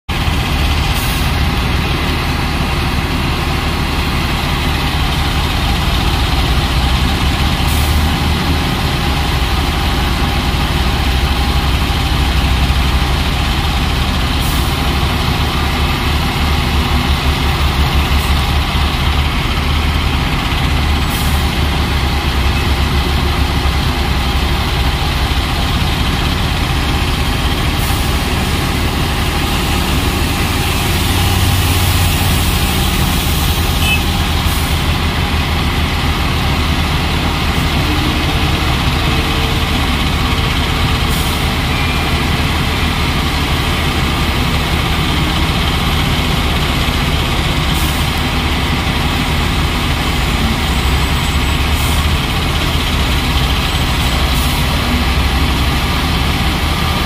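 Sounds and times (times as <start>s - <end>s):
diesel engine running: 0.1s - 57.0s.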